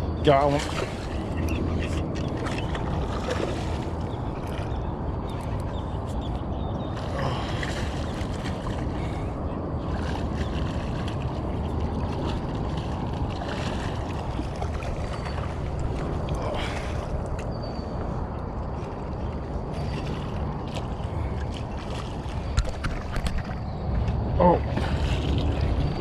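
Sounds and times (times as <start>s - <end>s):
wind rumble on microphone: 0.0s - 26.0s
water splashes: 0.2s - 26.0s.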